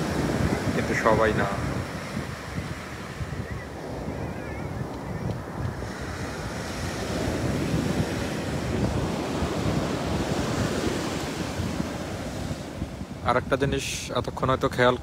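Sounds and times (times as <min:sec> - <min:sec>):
ocean surf breaking on beach: 0:00.0 - 0:14.0
wind buffeting microphone: 0:00.0 - 0:15.0.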